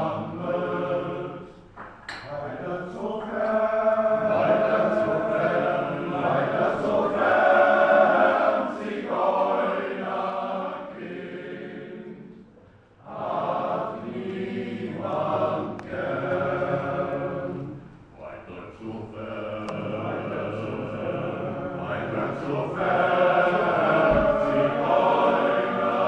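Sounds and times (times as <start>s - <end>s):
men's choir singing: 0.0s - 1.6s, 2.2s - 26.0s.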